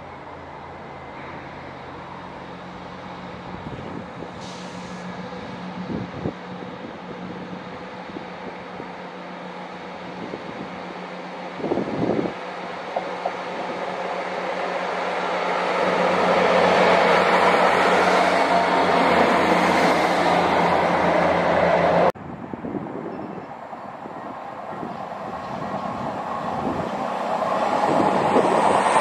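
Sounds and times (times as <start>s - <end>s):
diesel train engine hum: 0.0s - 29.0s
rail noise: 0.0s - 29.0s.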